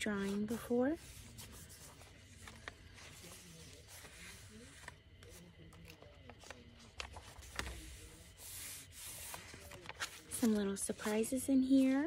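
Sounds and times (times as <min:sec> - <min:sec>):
paper pages rustling: 0:00.2 - 0:12.0.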